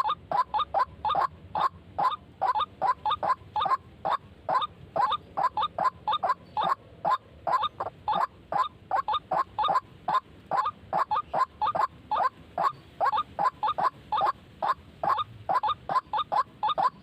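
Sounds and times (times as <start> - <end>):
bird croaking calls: 0.0 - 17.0.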